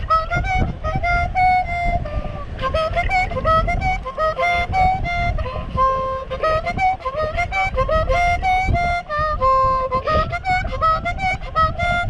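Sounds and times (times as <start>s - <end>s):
harmonica playing: 0.0s - 12.0s
wind rumbling on microphone: 0.0s - 12.0s.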